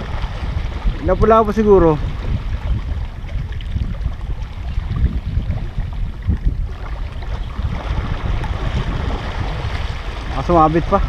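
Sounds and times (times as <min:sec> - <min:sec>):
water lapping: 0:00.0 - 0:11.0
wind buffeting the microphone: 0:00.0 - 0:11.0.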